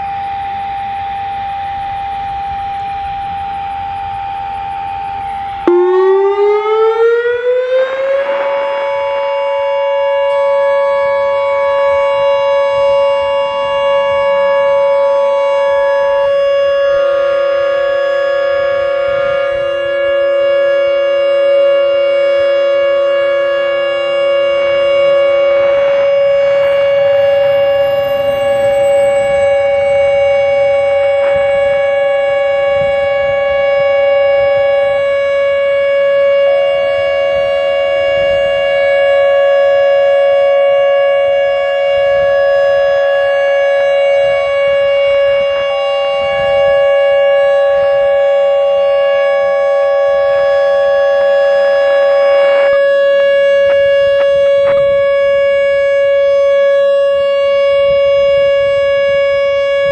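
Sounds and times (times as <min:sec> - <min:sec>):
faint higher steady tones: 0:00.0 - 0:59.9
steady warning siren tone: 0:00.0 - 0:59.9.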